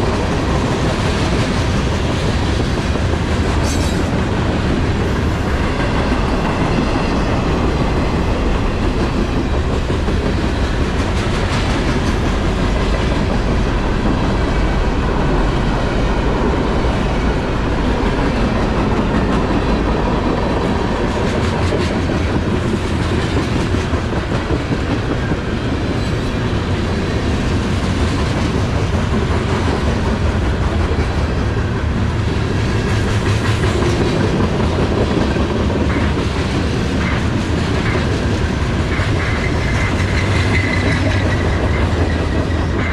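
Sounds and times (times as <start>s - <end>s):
freight train wheels clattering: 0.0s - 42.9s.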